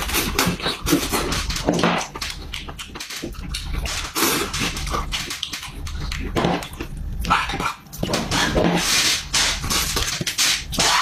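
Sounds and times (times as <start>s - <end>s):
wet chewing and slurping: 0.0s - 11.0s.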